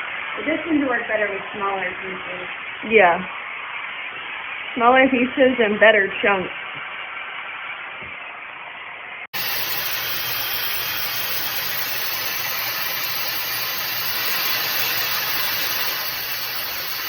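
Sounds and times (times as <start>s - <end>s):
hot air styler blowing: 0.0s - 17.0s.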